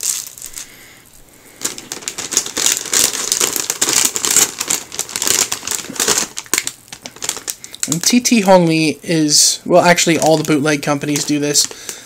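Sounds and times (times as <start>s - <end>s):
plastic bag crinkling: 0.0s - 8.6s, 9.8s - 12.0s.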